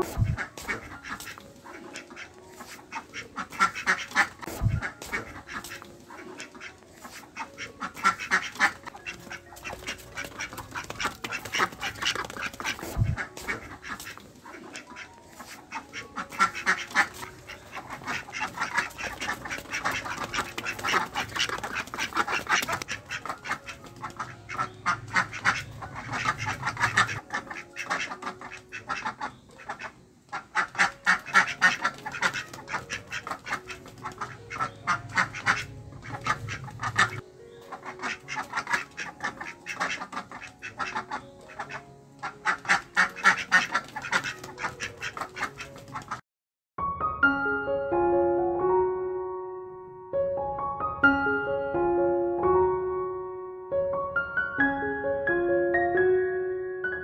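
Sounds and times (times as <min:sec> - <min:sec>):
ducks quacking: 0:00.0 - 0:46.2.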